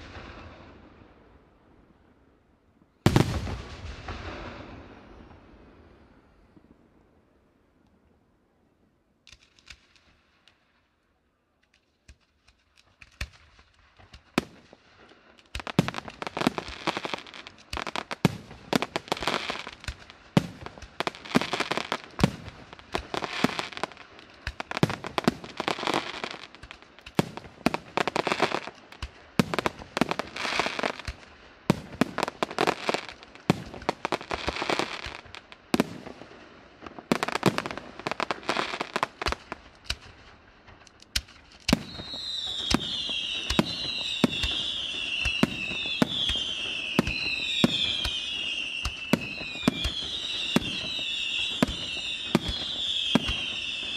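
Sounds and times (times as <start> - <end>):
fireworks bangs and crackling: 0.0 - 2.2, 2.8 - 6.9, 11.7 - 53.9.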